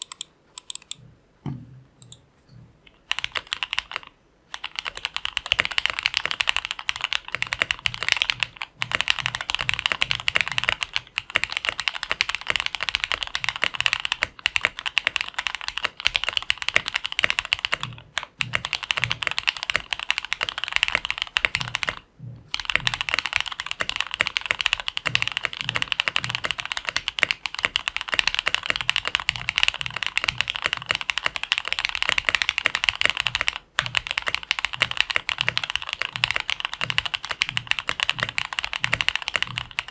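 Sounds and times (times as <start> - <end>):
fast typing on mechanical keyboard: 0.0 - 1.0, 3.0 - 39.9.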